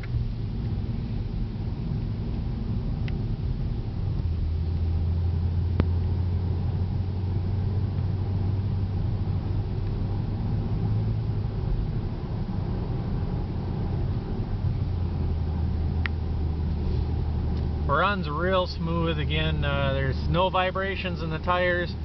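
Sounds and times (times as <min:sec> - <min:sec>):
car engine and tyre drone: 0:00.0 - 0:22.0.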